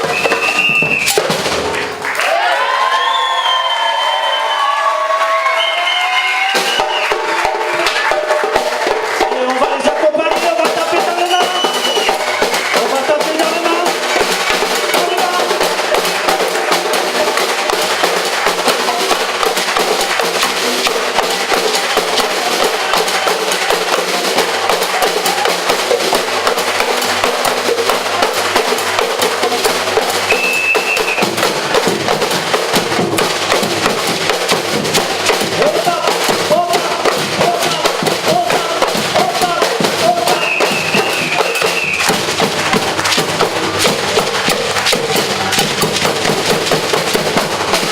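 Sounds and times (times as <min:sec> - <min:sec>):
percussion group drumming: 0:00.0 - 0:47.9.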